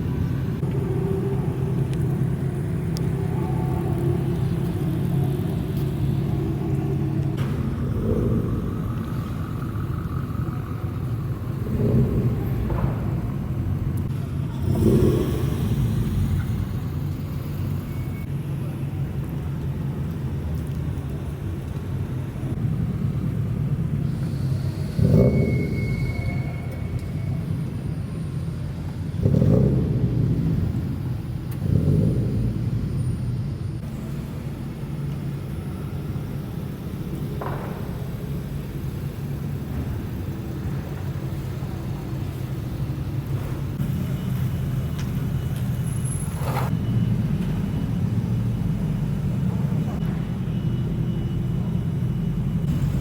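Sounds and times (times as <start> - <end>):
car exhaust rumbling: 0.0 - 53.0
engine throttle blips: 0.0 - 53.0.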